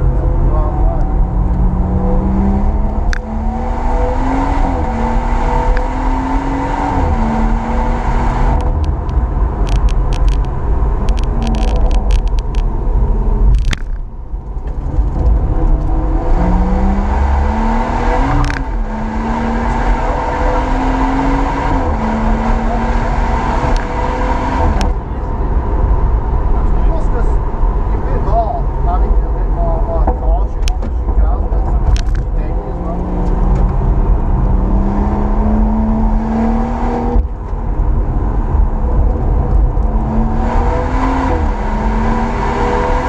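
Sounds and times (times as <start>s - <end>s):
car engine accelerating: 0.0s - 43.0s
exhaust crackles: 6.9s - 43.0s.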